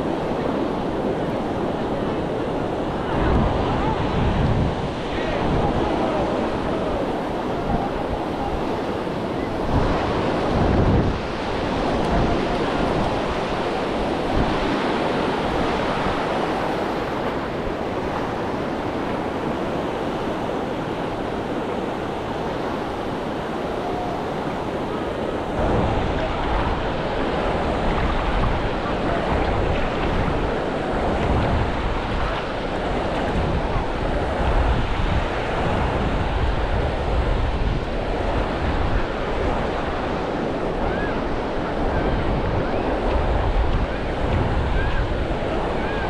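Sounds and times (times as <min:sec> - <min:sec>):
ocean surf on a beach: 0:00.0 - 0:46.0
wind buffeting microphone: 0:00.0 - 0:46.0.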